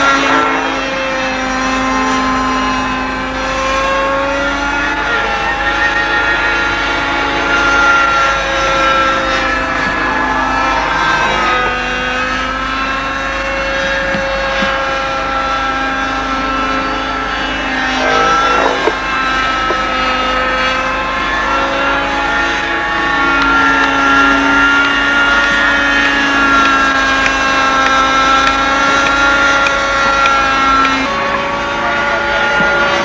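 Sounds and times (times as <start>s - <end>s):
model helicopter engine drone: 0.0s - 33.0s.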